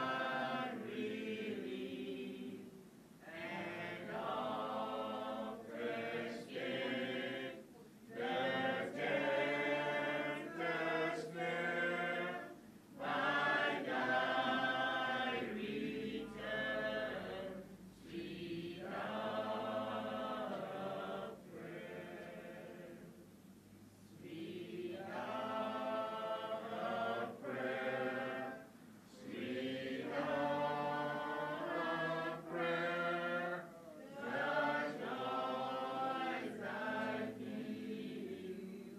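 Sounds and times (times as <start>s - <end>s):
voices singing together: 0.0s - 38.9s.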